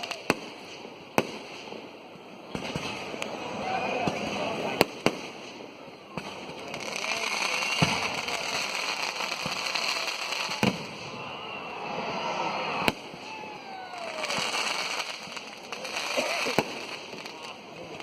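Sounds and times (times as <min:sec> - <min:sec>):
firework bangs: 0:00.0 - 0:18.0
fireworks crackling and hissing: 0:00.0 - 0:18.0.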